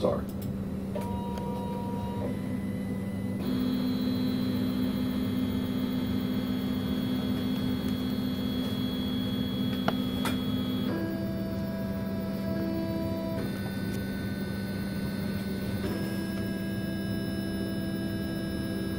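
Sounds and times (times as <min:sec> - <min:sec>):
printer motor hum: 0:00.0 - 0:18.9
high whine: 0:00.8 - 0:18.9.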